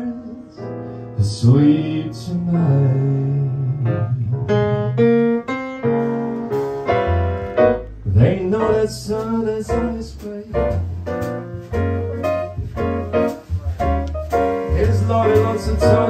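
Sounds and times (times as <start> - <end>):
piano: 0.0 - 16.0
upright bass: 0.0 - 16.0.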